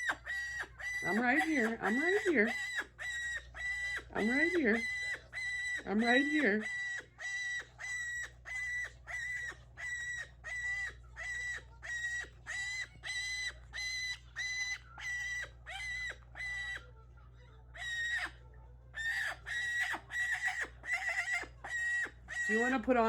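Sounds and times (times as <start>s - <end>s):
parrot calling: 0.0s - 17.0s, 17.7s - 23.0s.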